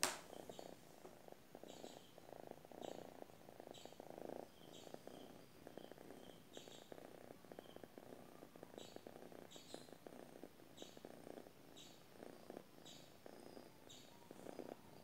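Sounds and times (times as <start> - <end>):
cat purring: 0.3 - 15.0.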